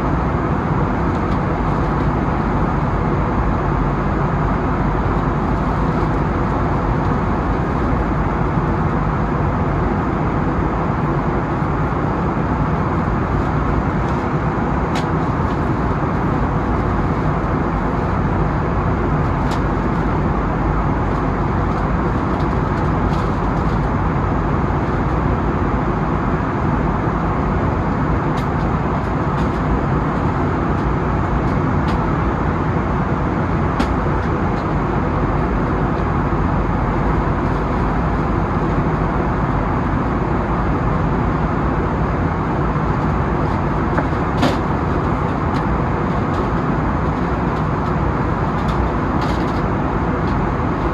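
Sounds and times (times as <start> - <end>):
jet engine cabin roar: 0.0 - 50.9.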